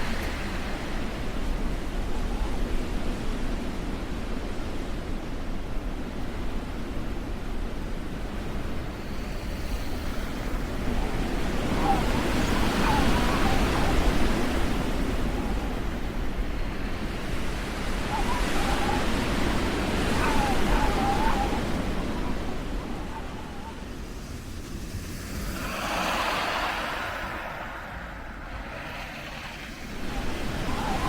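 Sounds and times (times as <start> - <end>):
wind noise on microphone: 0.0 - 31.0.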